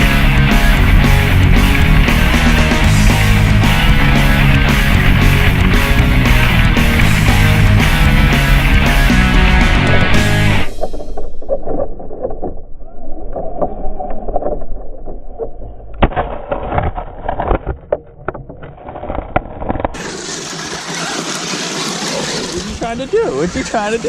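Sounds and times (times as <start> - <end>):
rc truck rumbling over rough ground: 0.0 - 12.6, 13.5 - 24.0.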